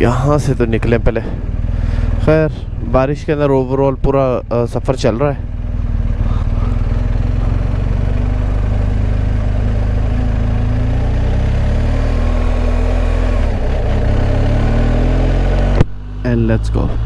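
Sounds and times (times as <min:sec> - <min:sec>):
motorcycle engine pulling away: 0:00.1 - 0:16.4.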